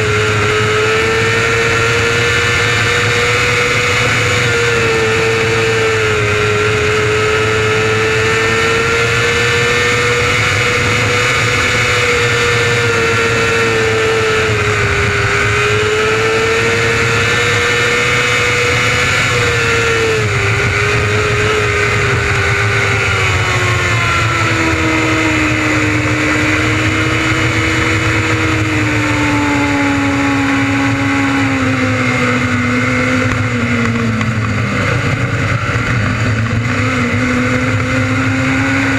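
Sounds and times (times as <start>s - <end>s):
motorcycle engine running at high revs: 0.0s - 38.9s.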